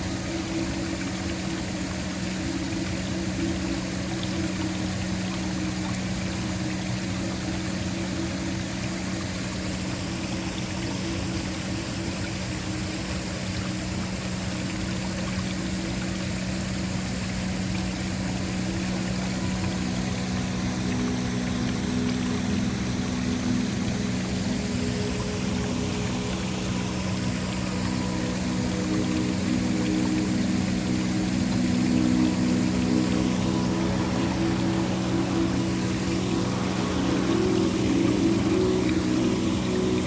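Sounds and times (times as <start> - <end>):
low ambient drone: 0.0 - 40.0
waterfall rushing: 0.0 - 40.0.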